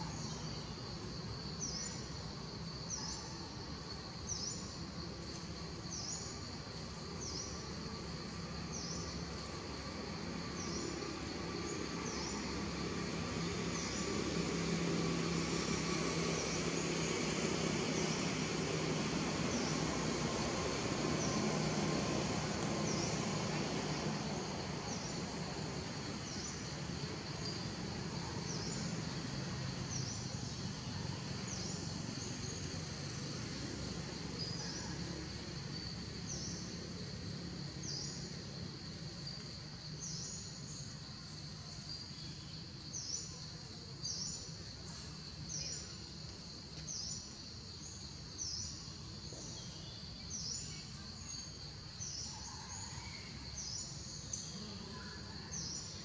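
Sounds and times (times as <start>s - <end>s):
insects droning high-pitched: 0.0s - 56.0s.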